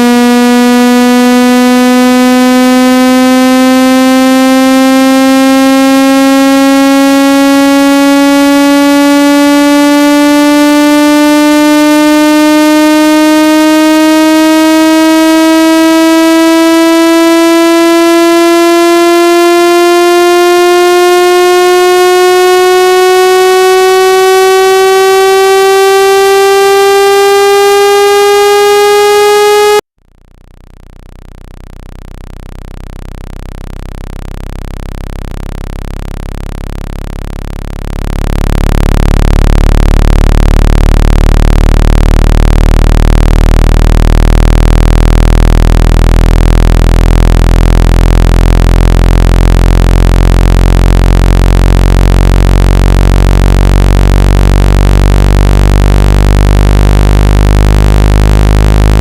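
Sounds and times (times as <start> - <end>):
loud gliding tone: 0.0 - 29.8, 37.1 - 59.0
low buzzy tone: 0.0 - 59.0.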